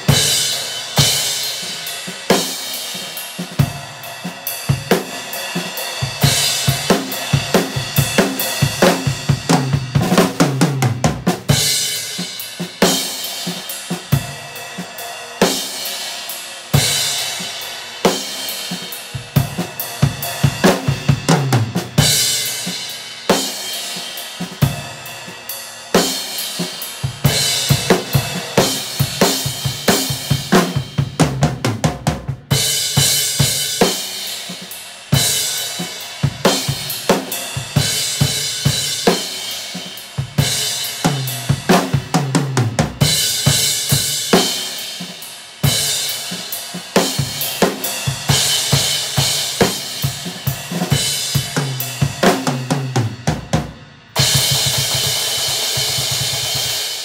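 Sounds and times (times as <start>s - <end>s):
drum kit groove: 0.0s - 57.0s.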